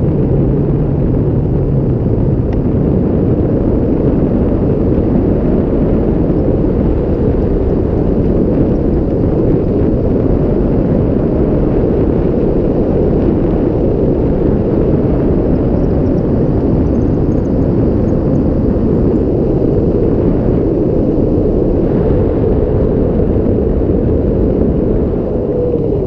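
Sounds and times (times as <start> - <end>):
loud wind noise on microphone: 0.0 - 26.0.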